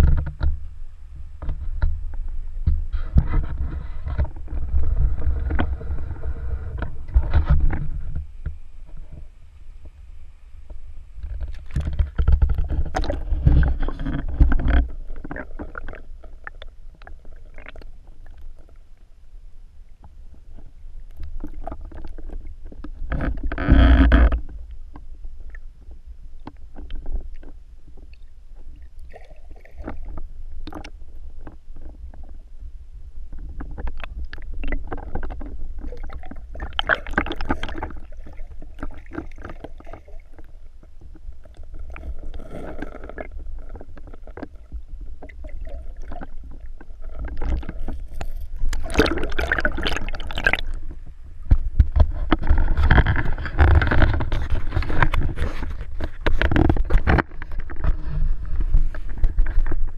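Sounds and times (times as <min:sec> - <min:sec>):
muffled water sloshing: 0:00.0 - 0:59.9.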